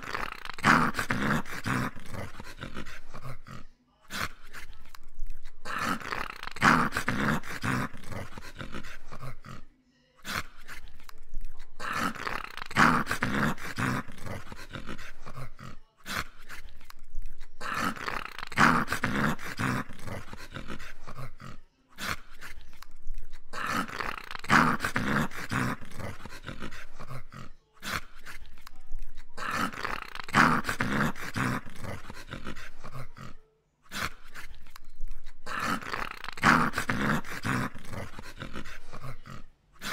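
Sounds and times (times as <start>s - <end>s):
dog growling: 0.0s - 39.9s.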